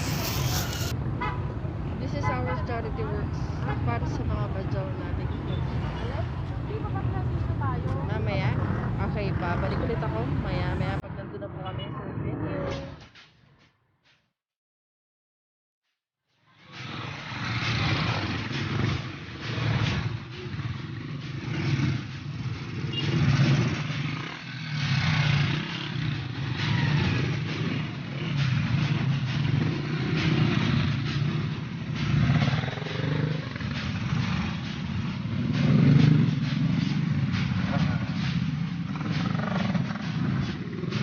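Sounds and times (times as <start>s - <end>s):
motor vehicle rumble: 0.0s - 13.1s, 16.6s - 41.0s.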